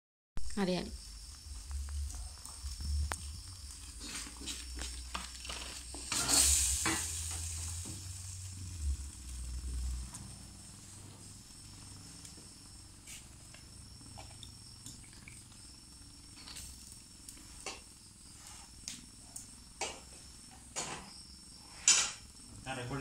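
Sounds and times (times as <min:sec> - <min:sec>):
faint high whine: 0:00.4 - 0:23.0
sauce sizzling in a wok: 0:00.5 - 0:22.6.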